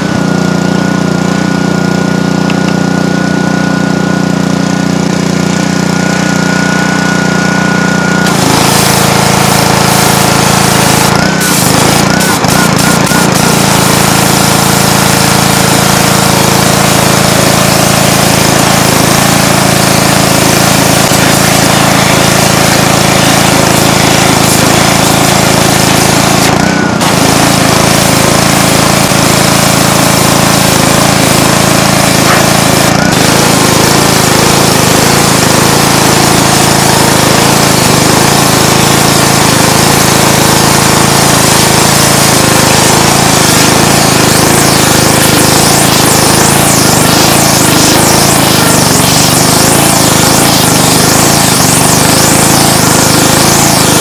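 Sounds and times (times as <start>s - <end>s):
pressure washer engine humming: 0.0s - 54.0s
high-pressure sandblasting jet hiss: 8.2s - 54.0s.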